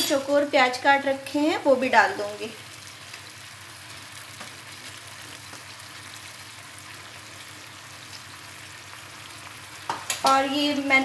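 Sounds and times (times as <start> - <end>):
gravy bubbling and sizzling: 0.0 - 11.0.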